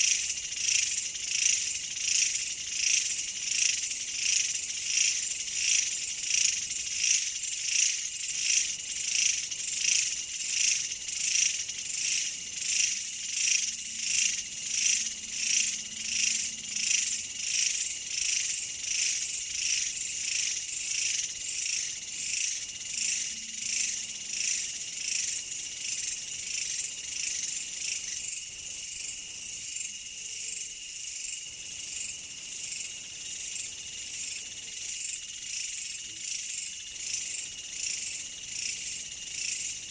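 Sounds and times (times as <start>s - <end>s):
insects chirping in pulses: 0.0s - 39.9s
steady high insect trill: 0.0s - 39.9s.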